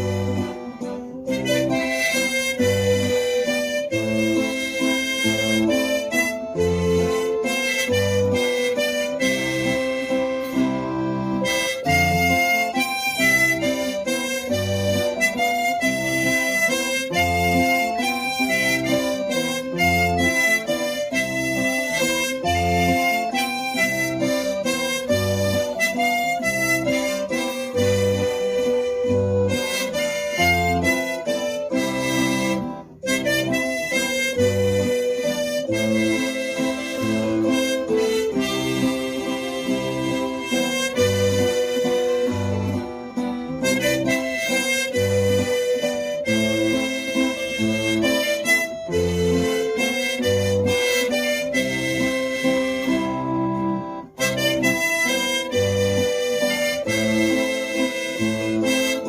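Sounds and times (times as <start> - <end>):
bass notes: 0.0 - 59.0
guitar accompaniment: 0.0 - 59.0
harmonica melody: 0.0 - 59.0.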